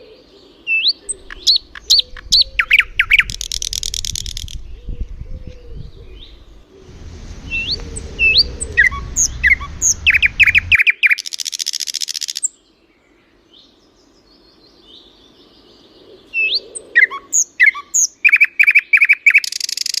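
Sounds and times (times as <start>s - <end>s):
small songbird singing: 0.1s - 20.0s.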